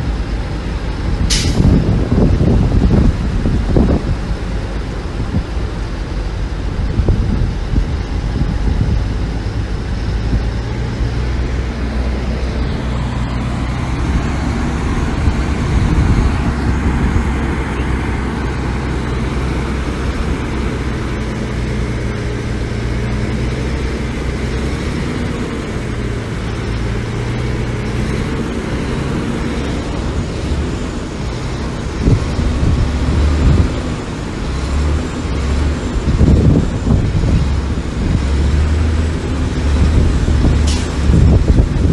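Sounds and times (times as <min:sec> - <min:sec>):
heavy machinery diesel engine running: 0:00.0 - 0:41.9.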